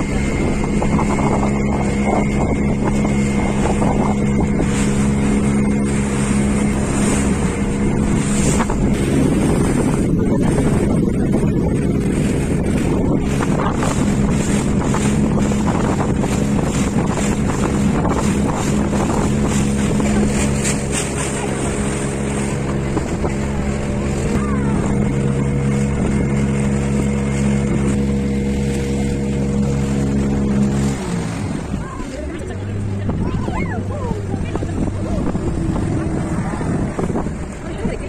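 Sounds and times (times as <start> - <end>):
speedboat engine running: 0.0 - 38.0
wind buffeting microphone: 0.0 - 38.0.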